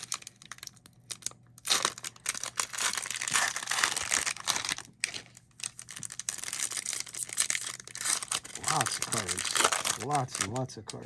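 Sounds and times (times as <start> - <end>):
cellophane wrapper crinkling: 0.0 - 11.0.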